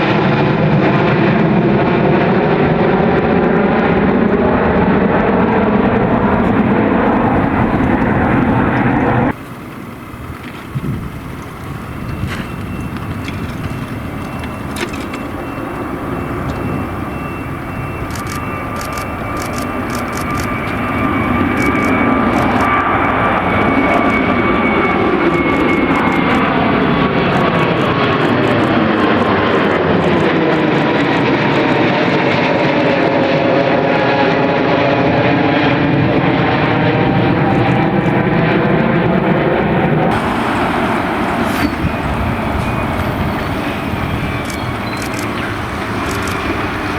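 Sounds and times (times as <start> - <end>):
airliner engines flying past: 0.0 - 46.9.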